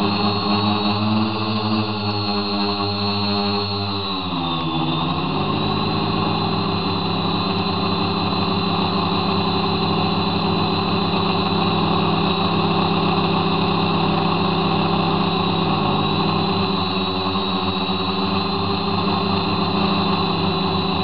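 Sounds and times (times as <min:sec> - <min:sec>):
model airplane motor droning: 0:00.0 - 0:21.0.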